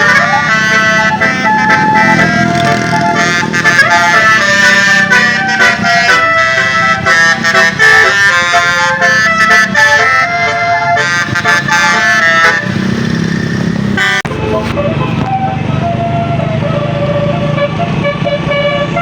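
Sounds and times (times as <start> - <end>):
bus engine rumbling: 0.0 - 19.0
multi-tone musical bus horn: 0.0 - 19.0.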